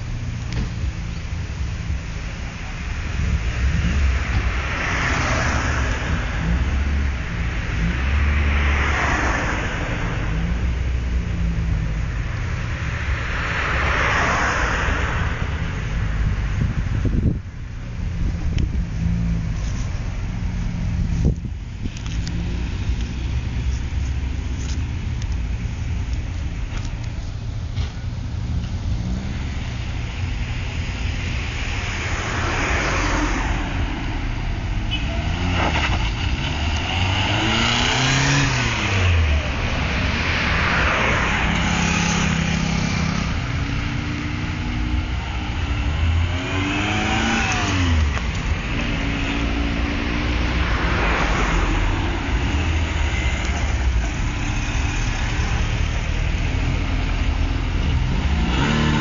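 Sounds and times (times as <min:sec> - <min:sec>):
cars driving past: 0:00.0 - 0:59.0.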